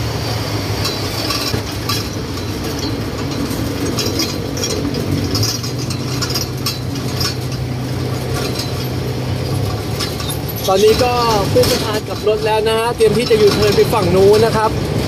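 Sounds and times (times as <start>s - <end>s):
pickup truck engine running: 0.0s - 15.0s
metal frame rattling and clinking: 0.6s - 15.0s.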